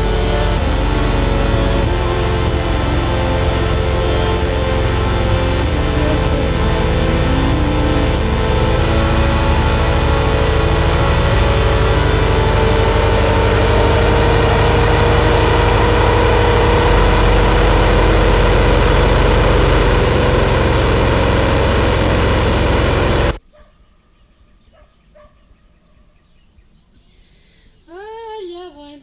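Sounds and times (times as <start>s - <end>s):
distorted electronic drone: 0.0s - 23.4s
faint clicks and tones: 0.0s - 23.4s
fast low buzzing pulse: 0.0s - 23.4s.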